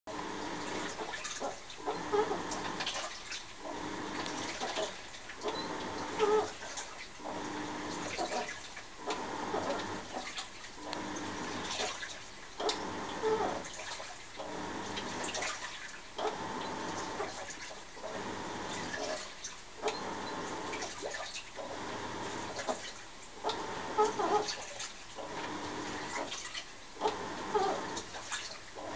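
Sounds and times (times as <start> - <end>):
washing machine drum agitating: 0.1 - 28.9.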